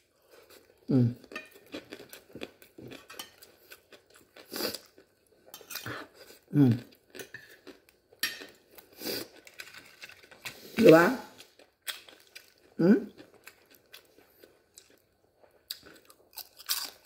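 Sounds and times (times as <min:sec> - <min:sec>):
chewing: 0:00.2 - 0:10.7, 0:11.3 - 0:17.0.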